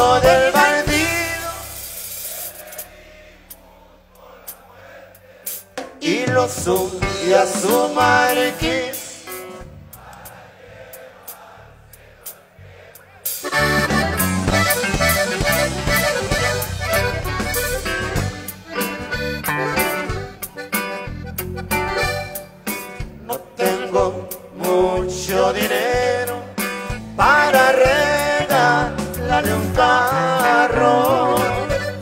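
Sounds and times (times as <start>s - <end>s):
accordion: 0.0s - 1.6s, 6.8s - 32.0s
live band playing: 0.0s - 3.6s, 5.4s - 11.6s, 13.1s - 32.0s.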